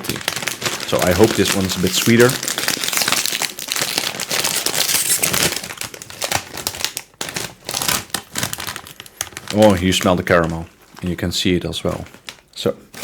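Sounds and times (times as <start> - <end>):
popcorn bag packaging crackling: 0.0 - 13.0.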